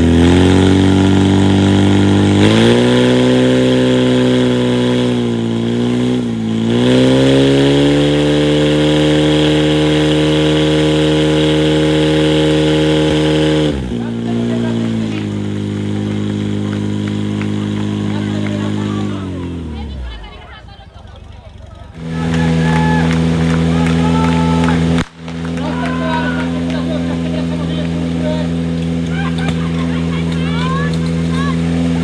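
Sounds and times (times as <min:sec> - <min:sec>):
pump engine running hard: 0:00.0 - 0:20.4, 0:21.6 - 0:32.0.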